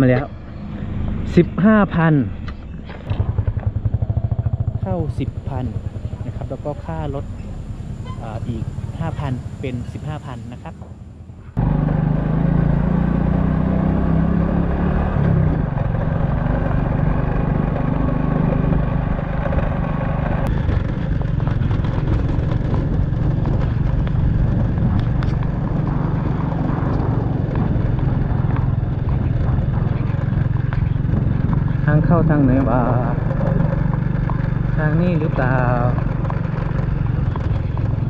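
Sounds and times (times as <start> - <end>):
motorcycle engine humming: 0.0 - 38.0.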